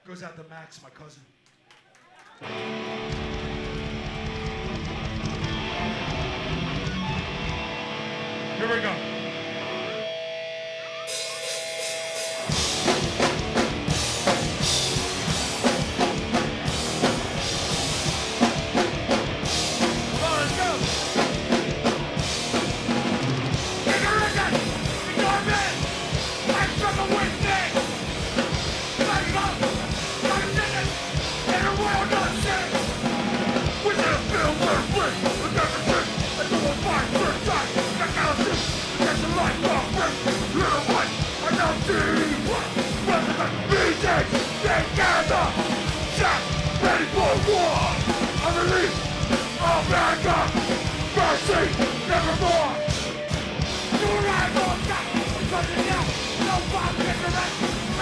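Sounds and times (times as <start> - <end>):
hardcore band playing live: 2.4 - 58.0.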